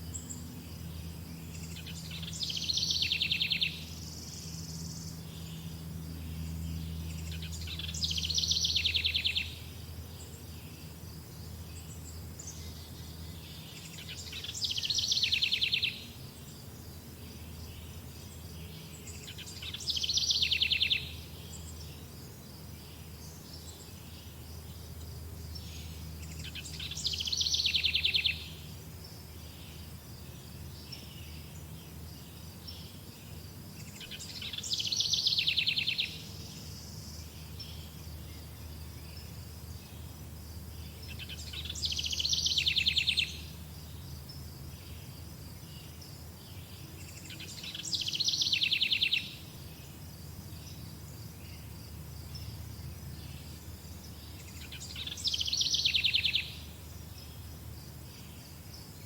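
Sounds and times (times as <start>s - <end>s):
songbird song with trill: 0.0s - 59.0s.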